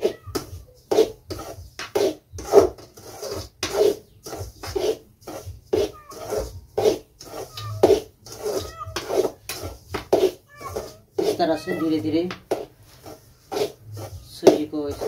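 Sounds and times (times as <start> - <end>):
metal ladle scraping semolina: 0.8 - 15.0.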